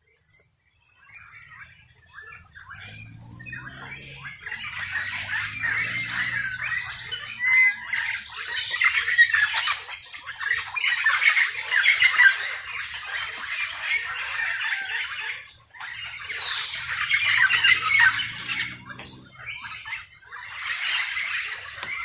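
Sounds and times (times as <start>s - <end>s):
chorus of chirping birds: 0.0s - 22.0s.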